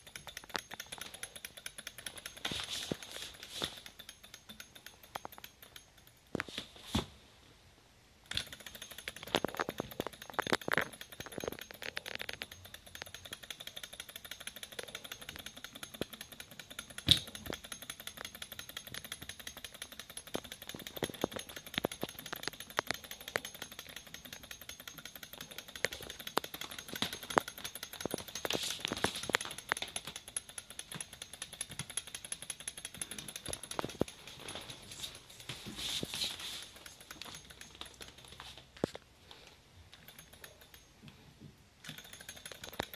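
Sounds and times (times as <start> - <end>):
small engine ticking clatter: 0.0 - 6.3, 8.3 - 35.3, 36.6 - 38.4, 41.8 - 42.9.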